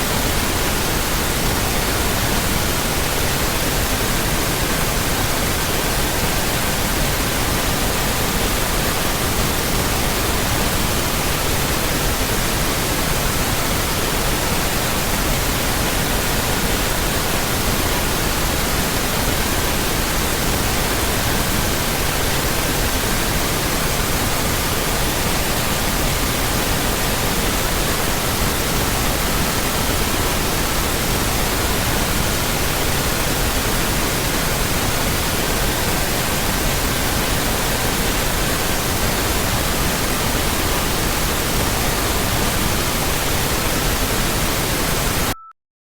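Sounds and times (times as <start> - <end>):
pink noise hiss: 0.0 - 45.3.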